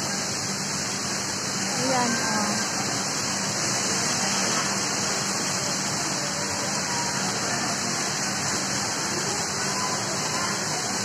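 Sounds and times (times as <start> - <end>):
heavy rain on pavement: 0.0 - 11.0.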